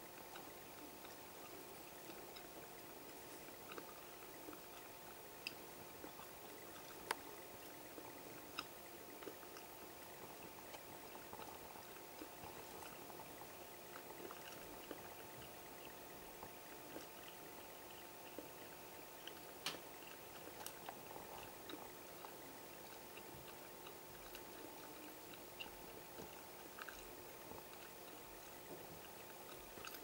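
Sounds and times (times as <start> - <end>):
faint steady hum: 0.0 - 30.0
small clicks and ticks: 0.0 - 30.0.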